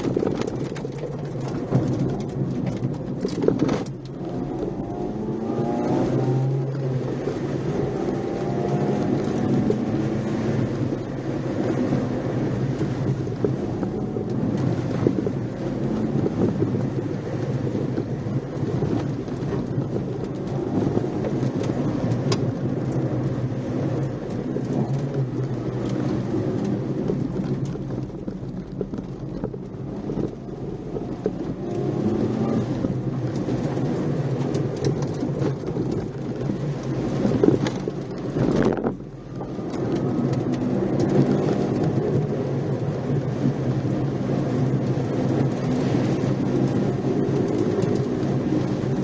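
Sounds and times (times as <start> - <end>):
car engine running: 0.0 - 49.0
dense rumbling noise: 0.0 - 49.0.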